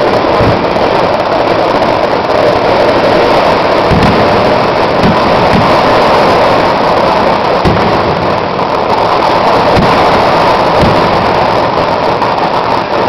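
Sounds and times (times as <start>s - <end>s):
firecrackers going off: 0.0s - 13.0s
heavy firework booms: 0.0s - 13.0s.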